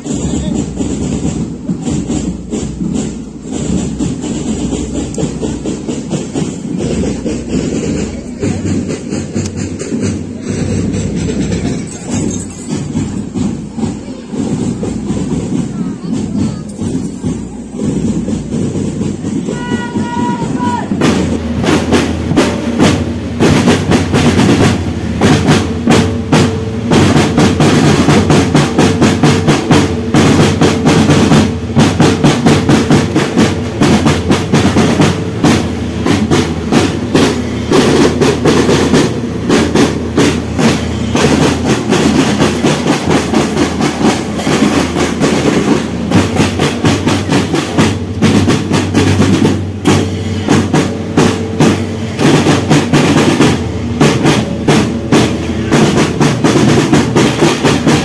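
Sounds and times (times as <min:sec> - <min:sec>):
bass drum strokes: 0:00.0 - 0:58.0
snare drums rolling: 0:00.0 - 0:58.0.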